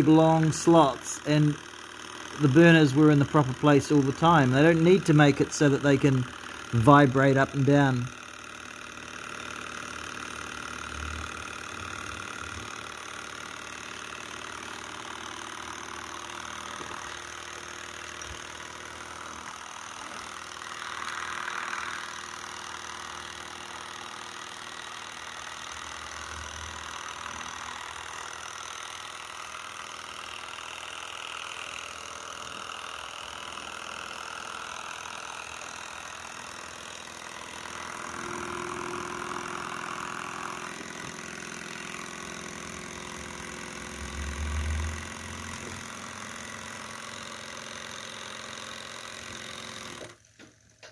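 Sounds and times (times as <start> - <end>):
stirling engine running: 0.0 - 48.4.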